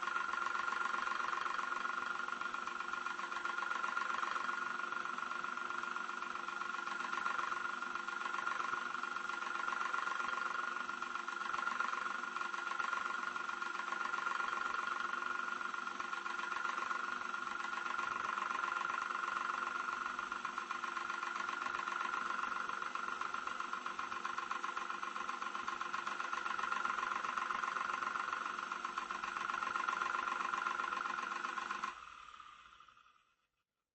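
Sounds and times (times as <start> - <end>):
electric fan whirring: 0.0 - 33.1.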